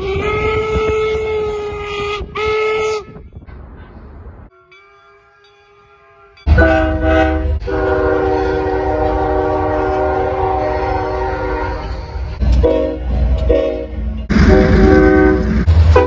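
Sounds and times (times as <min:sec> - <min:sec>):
train horn blasts: 0:00.0 - 0:03.4, 0:05.1 - 0:16.0.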